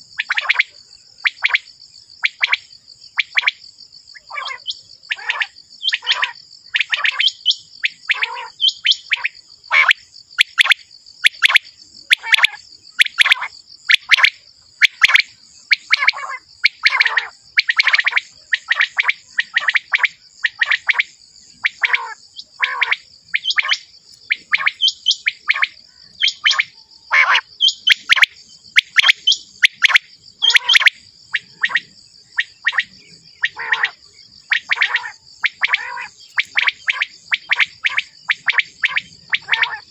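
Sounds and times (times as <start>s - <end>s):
quail calling: 4.2s - 39.9s.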